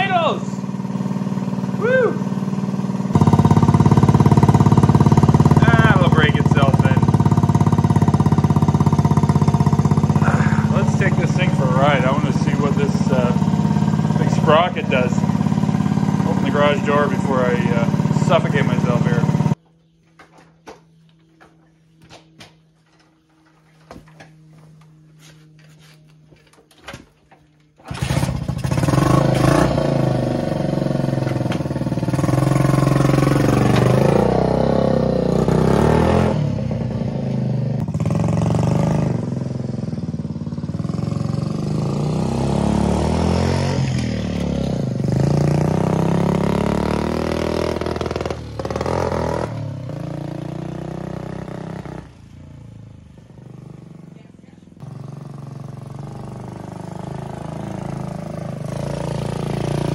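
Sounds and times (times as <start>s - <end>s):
small motorcycle engine revving: 0.0s - 19.6s, 27.8s - 59.9s.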